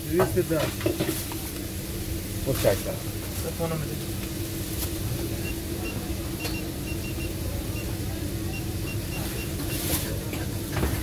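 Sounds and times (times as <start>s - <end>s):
low hum and rumble: 0.0s - 11.0s.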